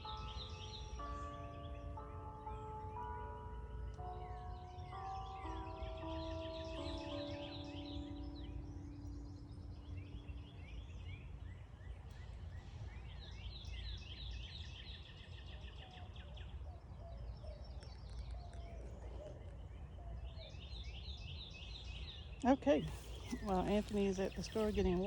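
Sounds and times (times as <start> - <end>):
small songbirds chirping: 0.0 - 25.0.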